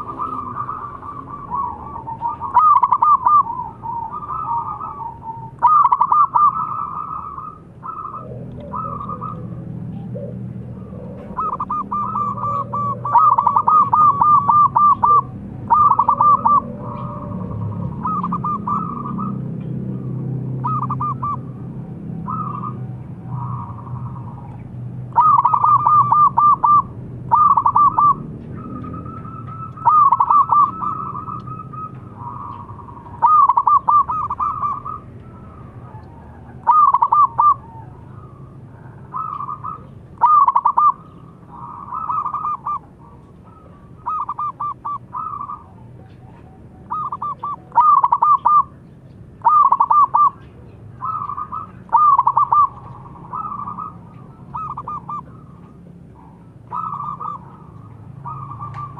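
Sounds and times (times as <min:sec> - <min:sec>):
doves cooing: 0:00.0 - 0:58.9.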